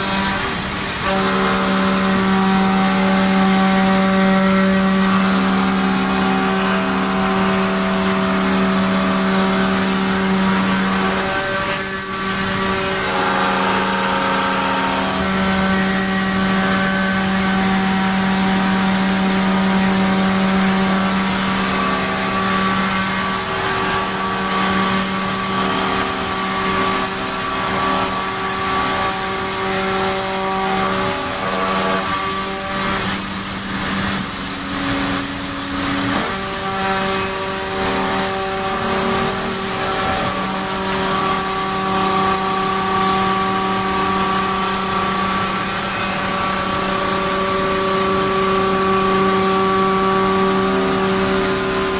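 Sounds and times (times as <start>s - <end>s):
router bit cutting wood: 0.0s - 51.9s
router spindle whining: 0.0s - 51.9s.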